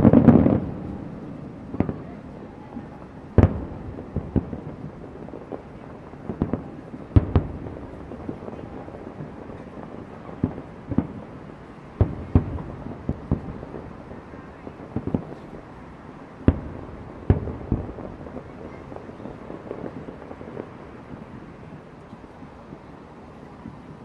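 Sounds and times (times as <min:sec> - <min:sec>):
fireworks exploding: 0:00.0 - 0:24.0
low background noise: 0:00.0 - 0:24.0.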